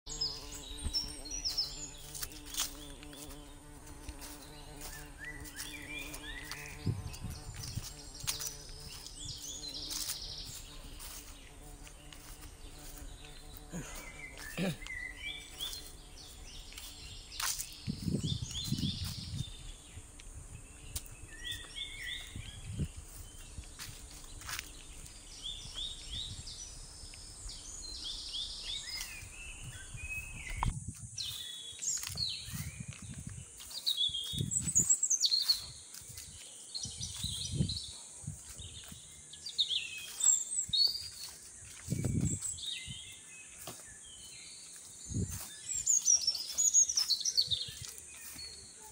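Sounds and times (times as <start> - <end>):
high insect buzz: 0.1 - 48.8
footsteps through undergrowth: 0.1 - 48.9
small birds chirping: 0.1 - 48.9.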